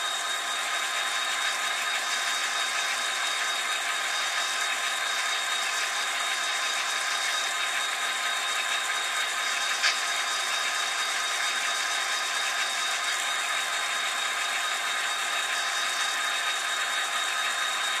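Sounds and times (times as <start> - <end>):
model train whirr and rattle: 0.0 - 18.0
thin high whine: 0.0 - 18.0.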